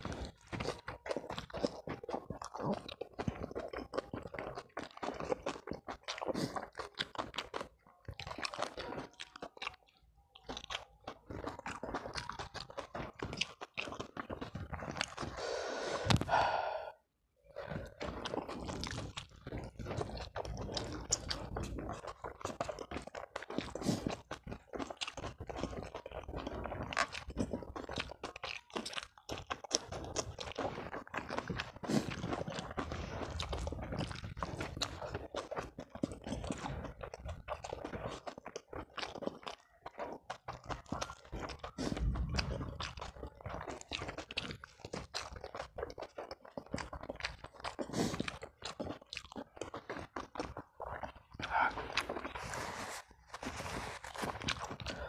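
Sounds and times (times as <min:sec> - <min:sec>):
wet chewing and crunching: 0:00.0 - 0:55.0.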